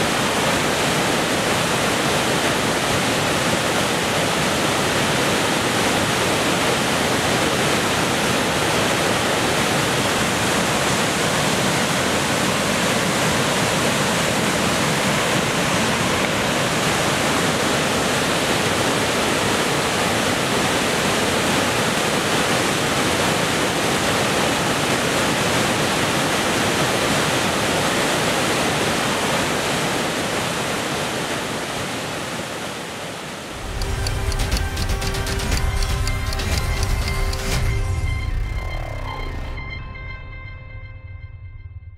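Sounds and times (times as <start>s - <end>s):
water rushing through rapids: 0.0s - 36.9s.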